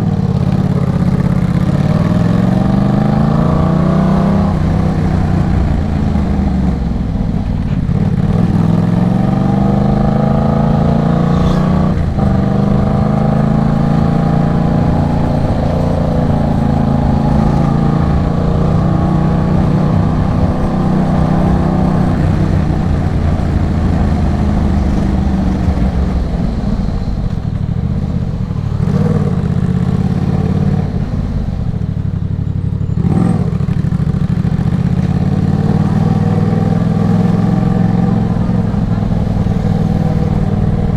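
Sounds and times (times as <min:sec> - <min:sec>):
motorcycle exhaust note: 0:00.0 - 0:40.9.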